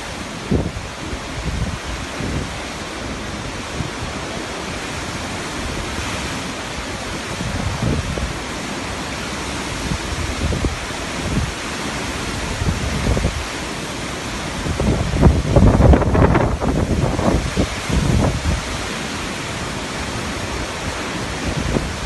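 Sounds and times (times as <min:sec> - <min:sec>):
strong storm wind: 0:00.0 - 0:22.0
wind buffeting microphone: 0:00.0 - 0:22.0.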